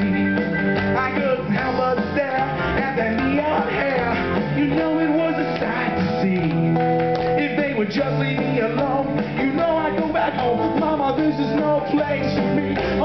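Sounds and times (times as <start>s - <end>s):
rock and roll music with guitar: 0.0s - 13.0s.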